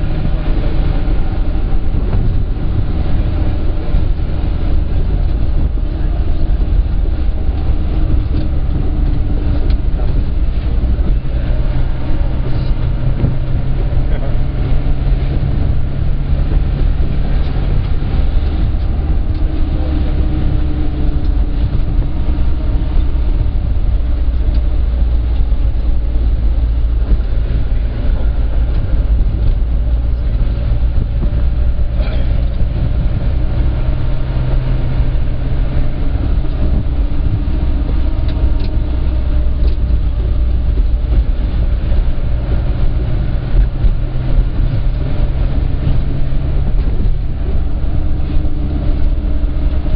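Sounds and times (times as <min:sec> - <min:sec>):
minibus engine and road drone: 0:00.0 - 0:49.9.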